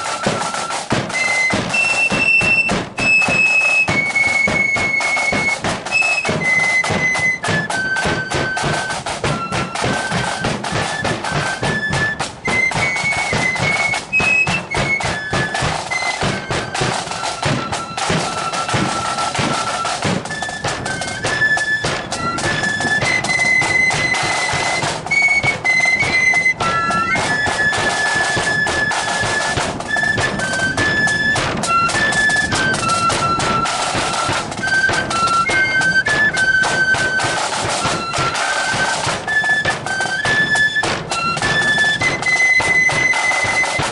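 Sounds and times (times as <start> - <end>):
drums beating march: 0.0 - 43.9
flutes playing a tune: 0.0 - 43.9.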